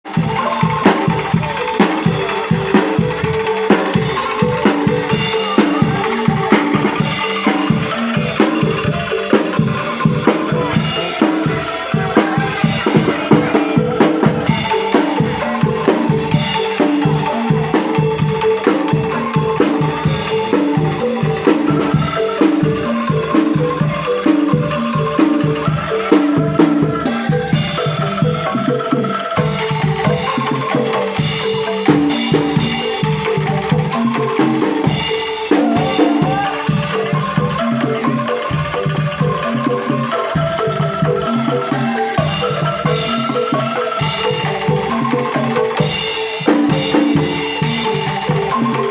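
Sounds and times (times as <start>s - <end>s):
drum strokes: 0.1s - 48.9s.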